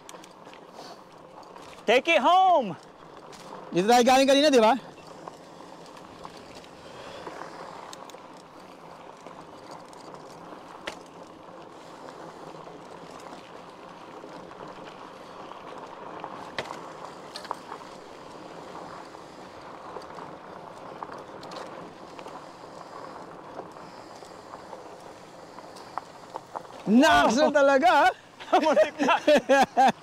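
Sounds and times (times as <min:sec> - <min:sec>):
bike clicks and rattles: 0:00.0 - 0:30.0
bike tyres rolling: 0:00.0 - 0:30.0.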